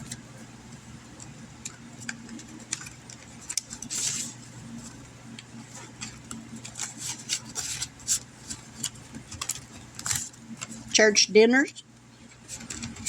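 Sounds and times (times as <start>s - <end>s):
paper envelopes rustling: 1.1s - 10.9s, 12.2s - 13.0s.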